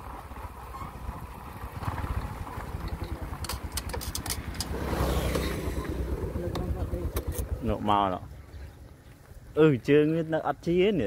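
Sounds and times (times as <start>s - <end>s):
motorbike engine rumble: 0.0s - 9.7s.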